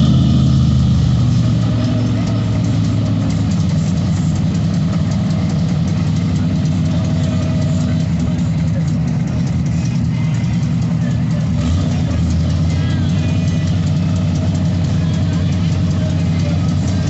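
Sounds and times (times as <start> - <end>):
jeep engine idling: 0.0 - 17.0.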